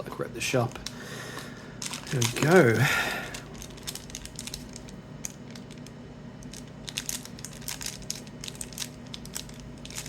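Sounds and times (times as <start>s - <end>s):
plastic wrappers crinkling: 0.6s - 10.0s.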